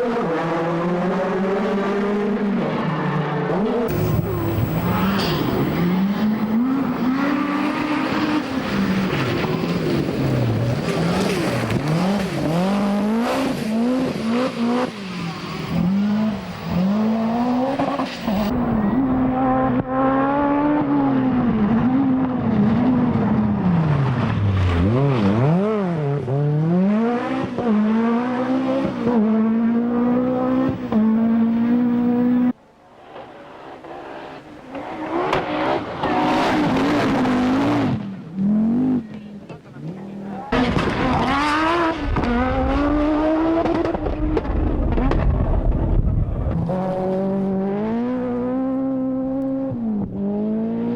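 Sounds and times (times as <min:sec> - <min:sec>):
rally car engines revving: 0:00.0 - 0:50.9.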